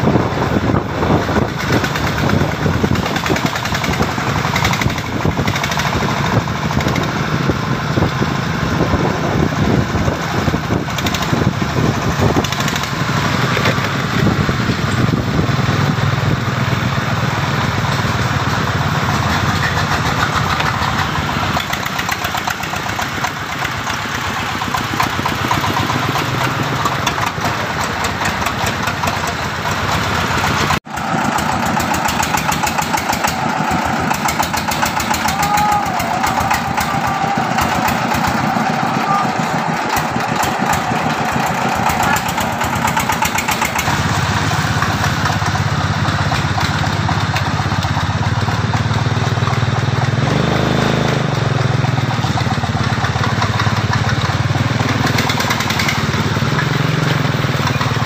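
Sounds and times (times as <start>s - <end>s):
diesel truck engines chugging: 0.0s - 58.0s
vehicle engine chugging past: 0.0s - 58.0s.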